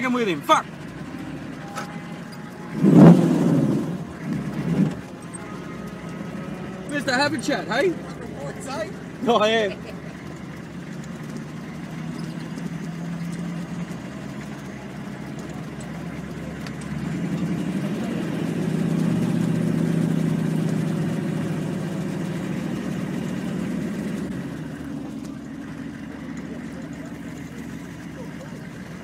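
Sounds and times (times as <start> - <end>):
vehicle engine at low revs: 0.0 - 29.0.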